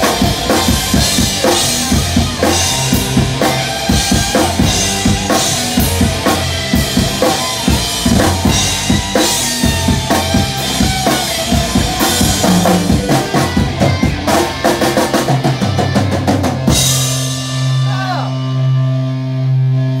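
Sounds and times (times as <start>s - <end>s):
drum kit playing: 0.0s - 20.0s
live rock band: 0.0s - 20.0s.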